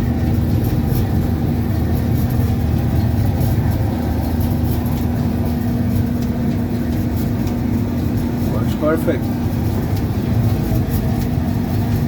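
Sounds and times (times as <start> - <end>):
clothes dryer running: 0.0 - 12.0.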